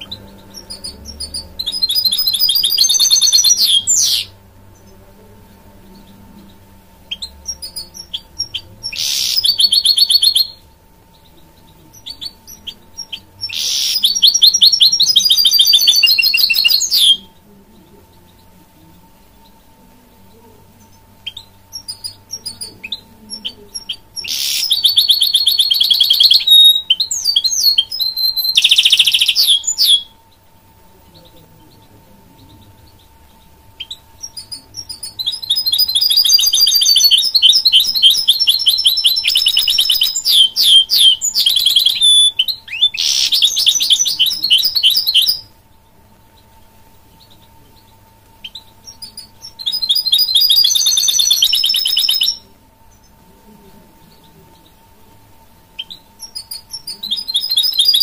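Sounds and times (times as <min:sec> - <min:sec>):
finch singing trills: 0:00.0 - 0:53.2, 0:53.8 - 0:58.0
faint steady hum: 0:00.0 - 0:58.0.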